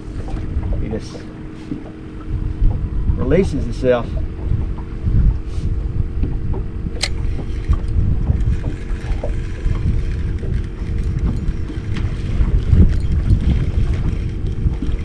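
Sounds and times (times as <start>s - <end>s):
steady low hum: 0.0s - 15.0s
water slapping against boat hull: 0.0s - 15.0s
wind buffeting microphone: 0.0s - 15.0s.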